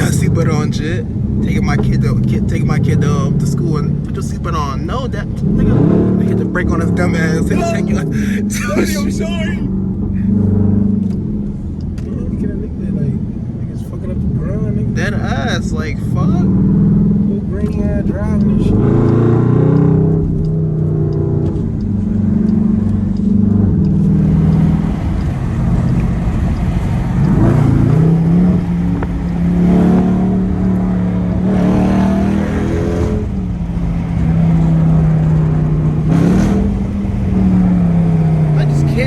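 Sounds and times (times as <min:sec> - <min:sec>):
loud engine exhaust: 0:00.0 - 0:39.0.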